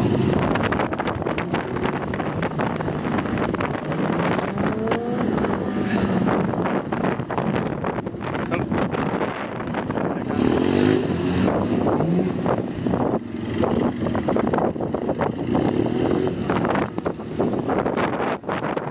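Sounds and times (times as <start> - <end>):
motorcycle engine revving: 0.0 - 18.9
wind buffeting microphone: 0.0 - 18.9.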